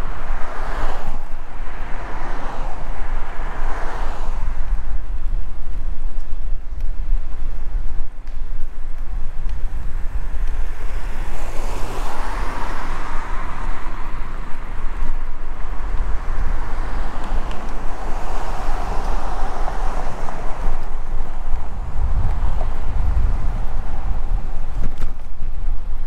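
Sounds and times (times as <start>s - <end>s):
passing traffic rushing: 0.0s - 26.0s
wind rumbling on microphone: 0.0s - 26.0s.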